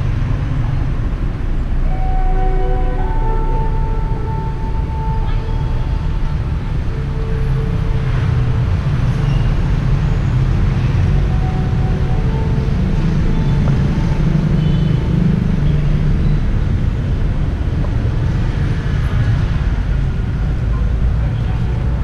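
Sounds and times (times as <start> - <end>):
city street traffic: 0.0 - 22.0.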